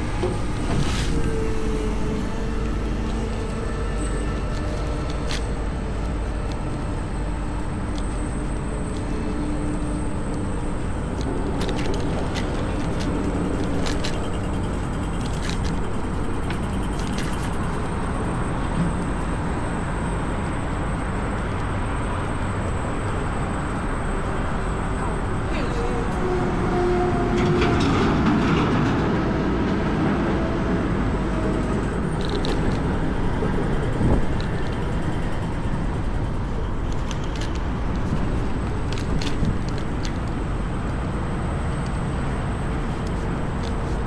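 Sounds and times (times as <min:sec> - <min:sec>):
electric scooter road and wind noise: 0:00.0 - 0:44.0.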